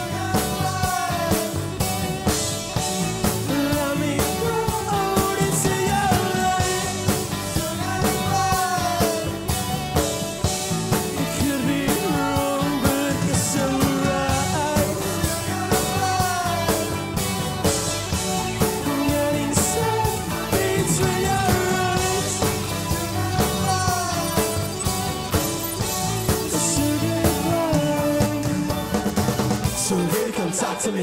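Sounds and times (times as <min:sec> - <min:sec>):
drum kit beat: 0:00.0 - 0:30.8
bass guitar: 0:00.0 - 0:31.0
electric guitars: 0:00.0 - 0:31.0.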